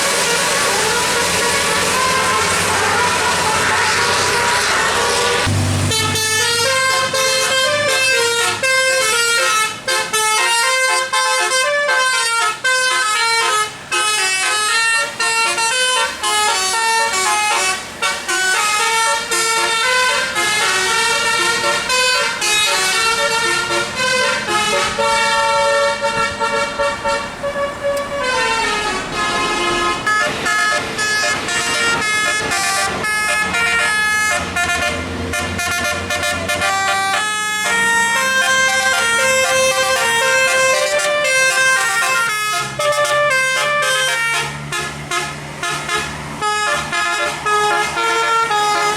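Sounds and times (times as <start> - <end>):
multi-tone bus air horn melody: 0.0 - 48.9.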